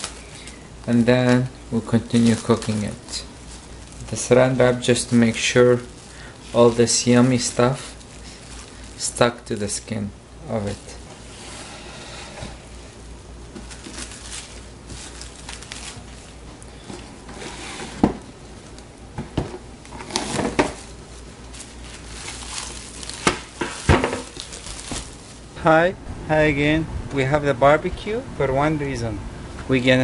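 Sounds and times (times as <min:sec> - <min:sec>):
cling film rustling and crinkling: 0:00.0 - 0:11.4, 0:12.4 - 0:25.6.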